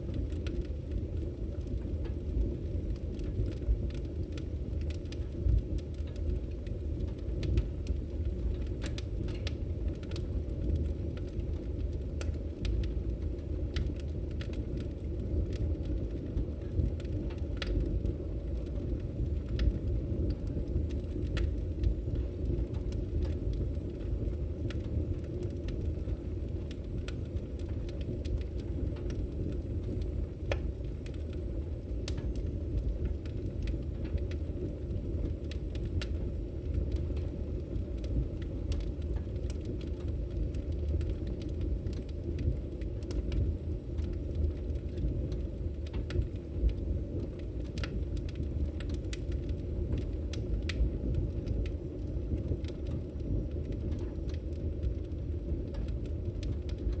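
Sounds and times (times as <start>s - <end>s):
sharp crackles and clicks: 0.1s - 57.0s.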